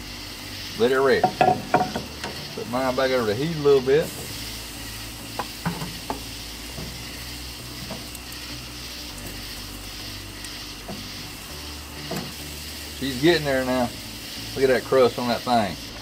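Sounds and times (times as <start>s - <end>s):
steak sizzling on a grill: 0.0s - 16.0s.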